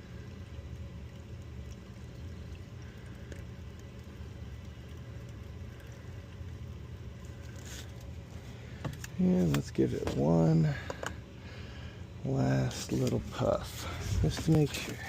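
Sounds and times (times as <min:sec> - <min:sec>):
steady low hum: 0:00.0 - 0:15.0
water flowing down drain line: 0:00.0 - 0:15.0.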